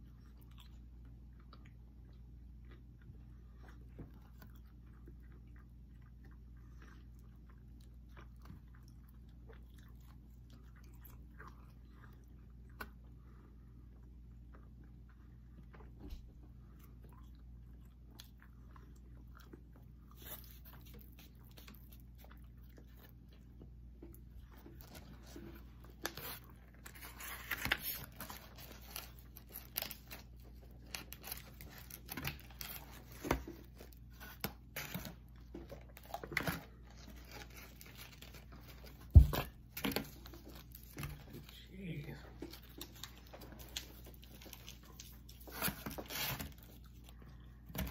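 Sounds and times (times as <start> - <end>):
chewing and crunching food: 0.0 - 47.9.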